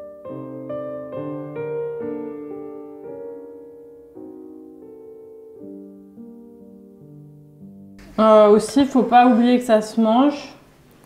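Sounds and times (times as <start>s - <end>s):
slow classical piano piece: 0.0s - 9.4s.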